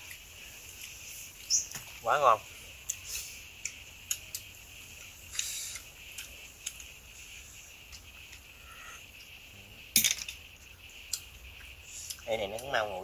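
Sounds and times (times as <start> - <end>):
high insect chirring: 0.0 - 13.0.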